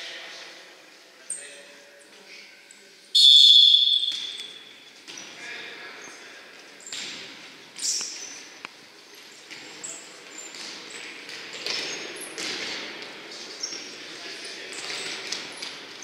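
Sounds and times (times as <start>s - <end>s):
sneakers squeaking on floor: 3.2s - 16.0s.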